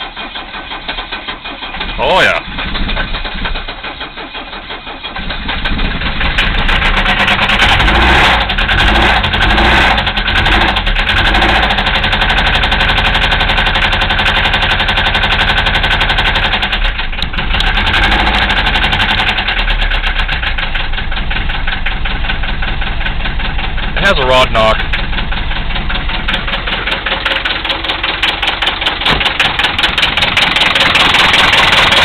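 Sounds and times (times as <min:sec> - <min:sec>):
diesel engine with rod knock: 0:00.0 - 0:32.0.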